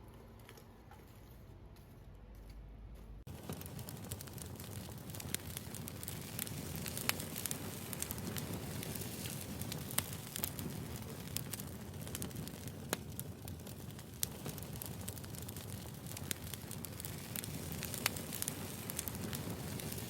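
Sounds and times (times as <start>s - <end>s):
crackling with sharp pops: 3.2s - 20.0s.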